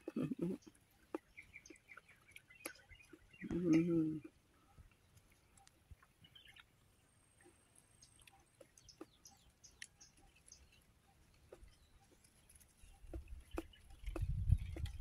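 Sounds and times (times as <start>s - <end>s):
faint bird chirps: 0.0s - 15.0s
people chewing coconut: 0.0s - 15.0s.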